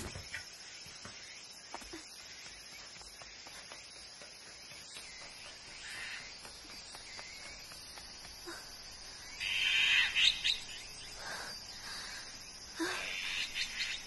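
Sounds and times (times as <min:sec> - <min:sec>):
bird calls: 0:00.0 - 0:14.0
faint high insect chirring: 0:00.0 - 0:14.0.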